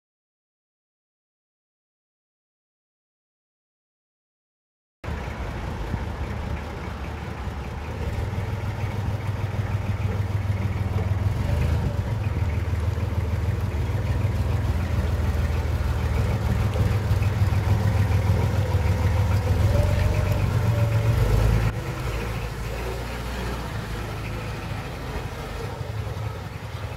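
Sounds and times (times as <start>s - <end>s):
forklift engine running: 5.0s - 26.9s.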